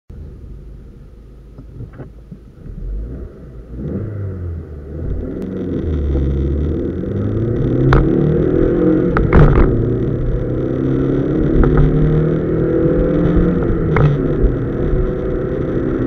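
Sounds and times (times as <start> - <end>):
car engine idling and revving: 0.1 - 16.0.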